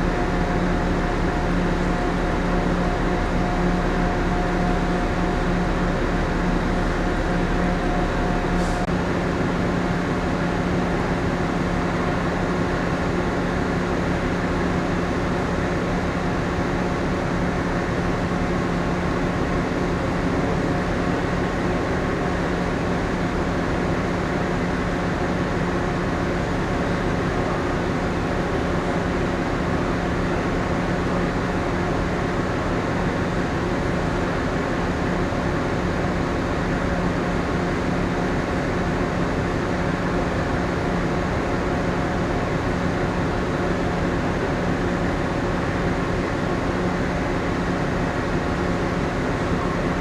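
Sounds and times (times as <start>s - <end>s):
ship machinery drone: 0.0s - 50.0s.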